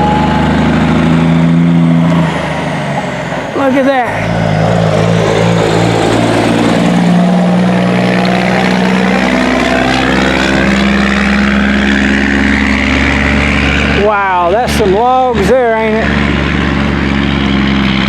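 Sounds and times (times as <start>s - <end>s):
diesel truck engine pulling uphill: 0.0s - 18.0s.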